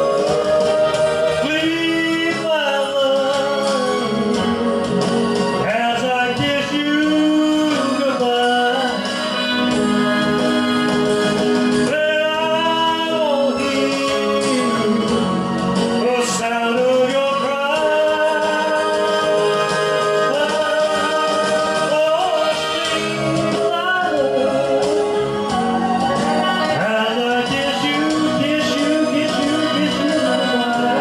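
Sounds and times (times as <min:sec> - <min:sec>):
slow ballad music: 0:00.0 - 0:31.0.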